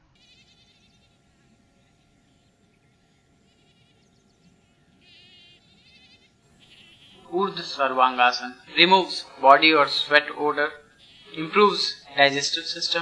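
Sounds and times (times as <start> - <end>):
faint high-pitched chirping trills: 0.0 - 13.0.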